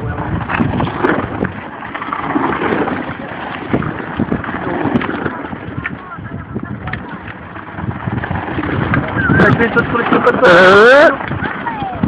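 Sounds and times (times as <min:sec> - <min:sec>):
mountain bikes rattling over rocks: 0:00.0 - 0:12.0
wind buffeting microphone: 0:00.0 - 0:12.0.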